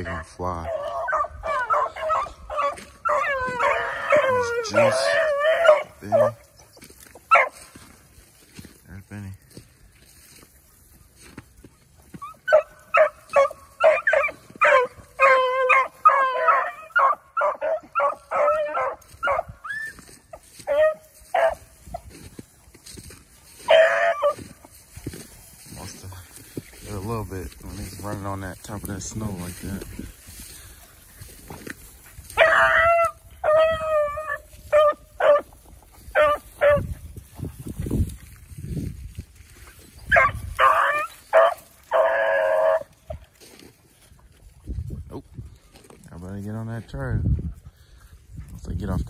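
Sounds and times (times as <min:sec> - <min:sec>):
hounds baying: 0:00.0 - 0:08.8, 0:09.5 - 0:37.5, 0:39.4 - 0:46.0.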